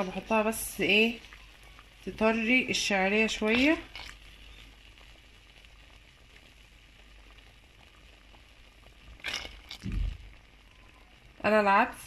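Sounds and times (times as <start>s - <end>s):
pot simmering with faint sizzle: 0.0s - 12.0s.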